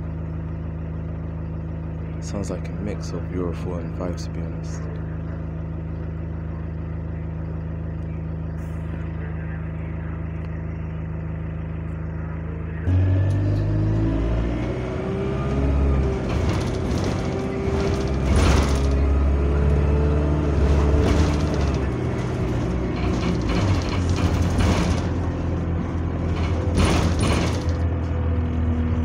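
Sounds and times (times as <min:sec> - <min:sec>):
bus diesel engine: 0:00.0 - 0:29.0.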